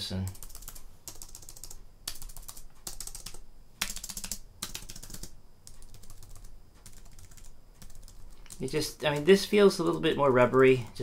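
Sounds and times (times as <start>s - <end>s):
keyboard keys clicking: 0.3s - 10.8s.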